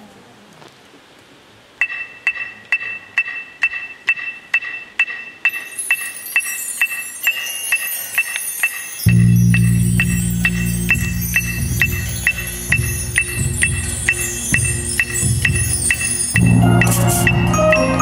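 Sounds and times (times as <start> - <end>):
electronic metronome clicking: 1.8 - 18.0.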